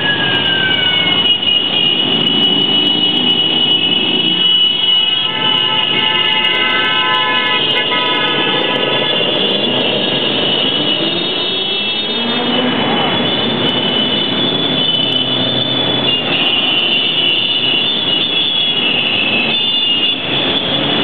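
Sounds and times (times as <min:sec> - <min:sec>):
motorcycle engines droning: 0:00.0 - 0:21.0.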